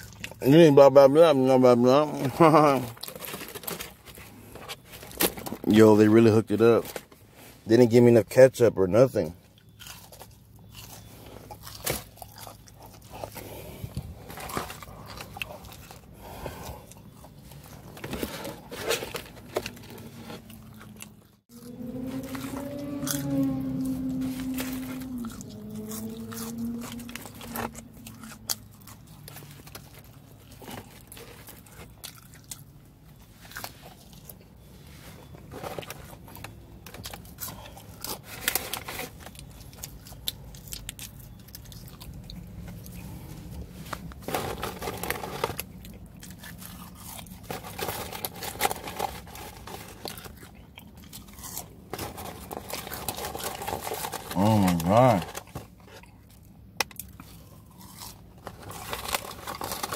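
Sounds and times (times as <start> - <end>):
chewing and crunching fried food: 0.0 - 59.9.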